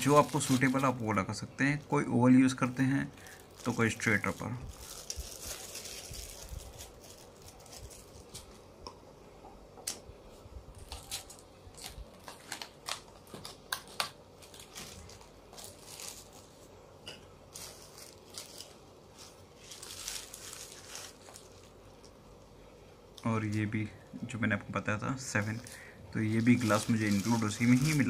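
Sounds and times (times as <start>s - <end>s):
plastic packaging crinkling: 0.0s - 8.7s, 10.7s - 22.5s, 23.1s - 28.0s.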